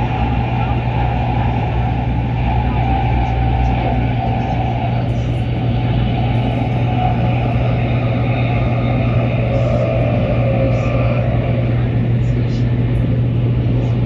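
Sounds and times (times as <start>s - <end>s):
rushing noise in train cabin: 0.0s - 14.0s
train interior low hum: 0.0s - 14.0s.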